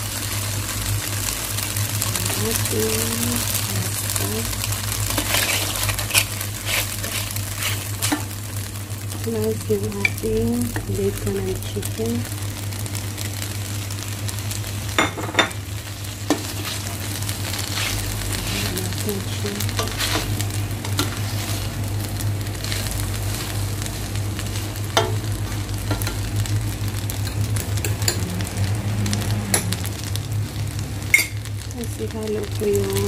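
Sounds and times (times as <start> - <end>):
food sizzling in a pan: 0.0 - 33.0
steady low hum: 0.0 - 33.0.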